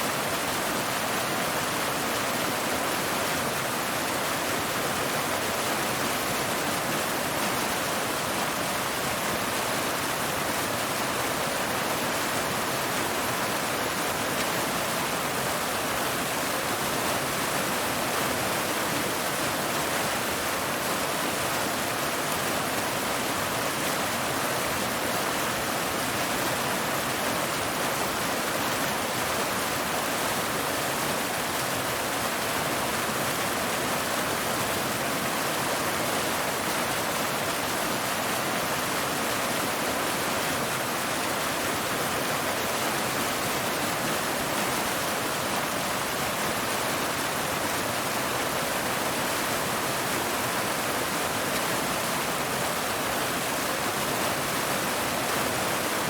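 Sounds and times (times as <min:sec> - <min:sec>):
waterfall pouring over rocks: 0:00.0 - 0:56.0.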